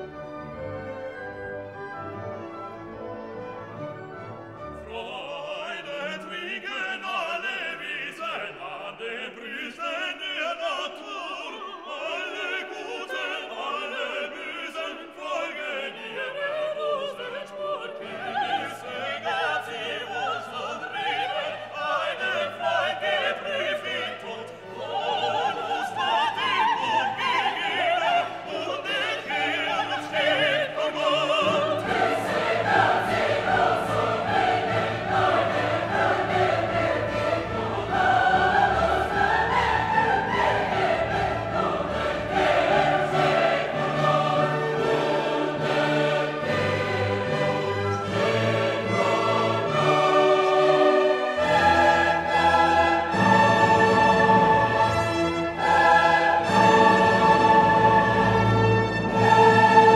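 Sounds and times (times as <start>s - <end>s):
operatic singing with orchestra: 0.0s - 59.9s.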